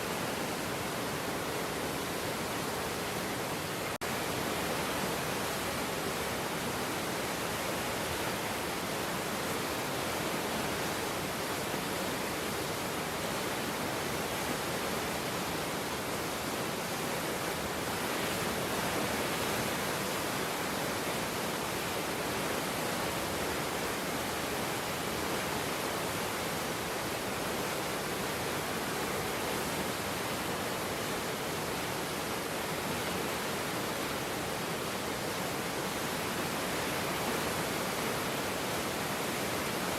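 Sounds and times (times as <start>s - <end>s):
floodwater river rushing: 0.0s - 39.9s.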